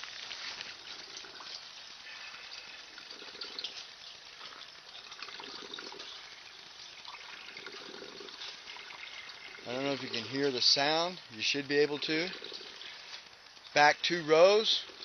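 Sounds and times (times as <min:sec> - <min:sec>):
low water gurgles: 0:00.0 - 0:13.7
water trickling through pipes: 0:00.0 - 0:15.0.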